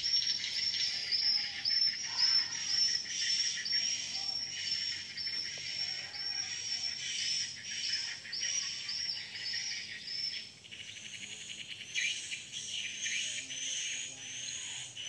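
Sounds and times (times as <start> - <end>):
birds and insects chirping: 0.0 - 15.0.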